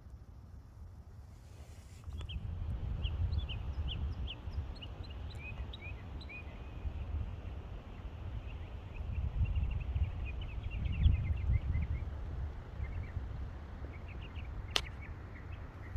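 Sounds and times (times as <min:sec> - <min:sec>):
small birds chirping: 0:02.0 - 0:15.9.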